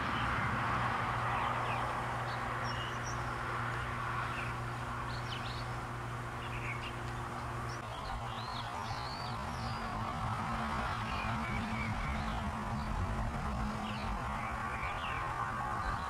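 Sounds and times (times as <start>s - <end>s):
birds chirping: 0.0s - 16.0s
low mechanical hum: 0.0s - 16.0s.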